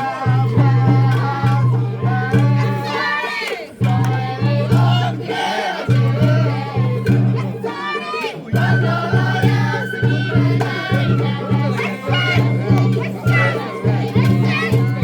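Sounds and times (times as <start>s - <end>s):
bamboo flute melody: 0.0s - 15.0s
taiko drums beating: 0.0s - 15.0s.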